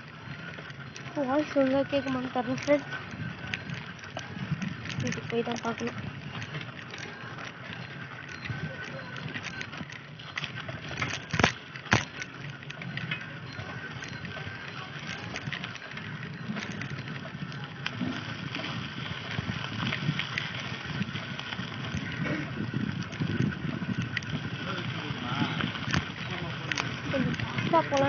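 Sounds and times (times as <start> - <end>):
bicycle rattling and clicks: 0.0 - 28.0
bicycle tyre noise: 0.0 - 28.0.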